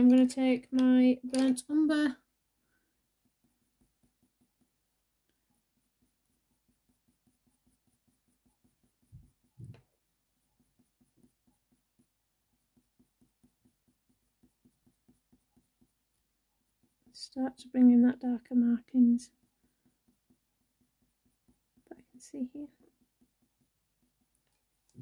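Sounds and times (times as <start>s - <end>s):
coloured pencil scratching paper: 0.0s - 25.0s.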